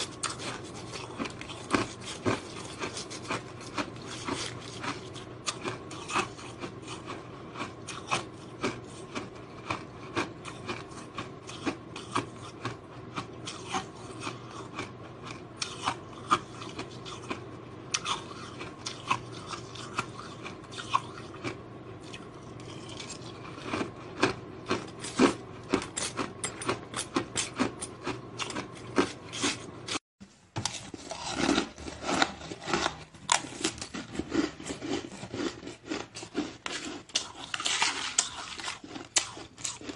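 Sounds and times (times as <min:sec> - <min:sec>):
ice crunching as chewed: 0:00.0 - 0:30.0, 0:30.6 - 0:39.9.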